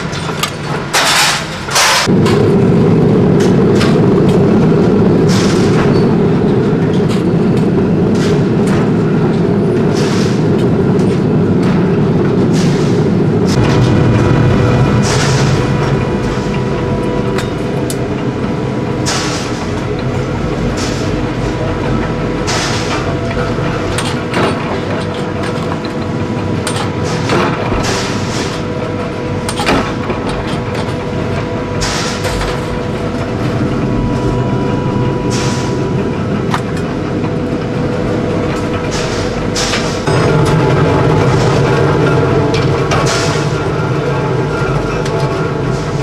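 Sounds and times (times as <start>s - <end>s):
power press running: 0.0s - 46.0s.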